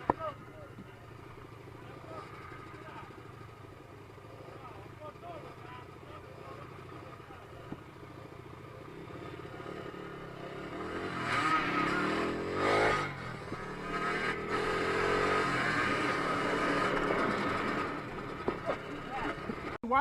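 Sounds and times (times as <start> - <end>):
dirt bike engine revving: 0.0 - 19.8.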